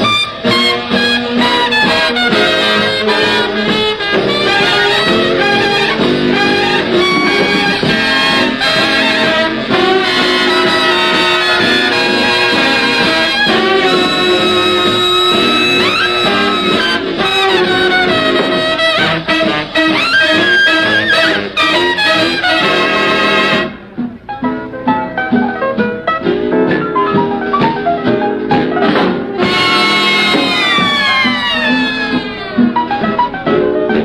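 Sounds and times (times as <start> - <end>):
swing jazz band with brass: 0.0 - 34.0.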